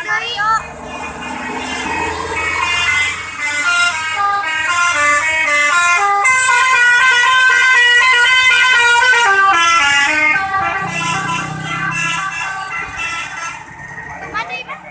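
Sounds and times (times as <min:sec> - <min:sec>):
musical bus horn tune: 0:01.2 - 0:13.8.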